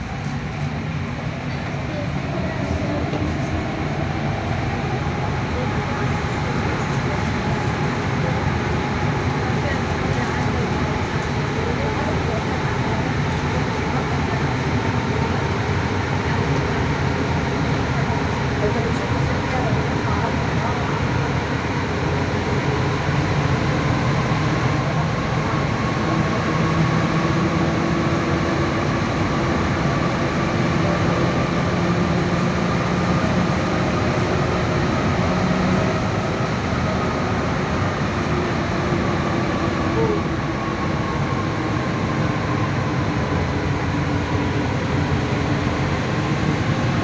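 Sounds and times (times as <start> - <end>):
faint train whine: 0.0 - 47.0
train rumbling and rushing: 0.0 - 47.0.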